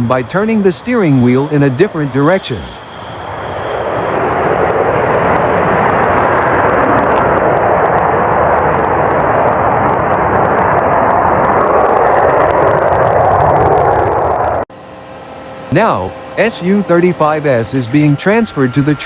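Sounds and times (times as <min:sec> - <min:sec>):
jet engine rushing: 0:00.0 - 0:19.0.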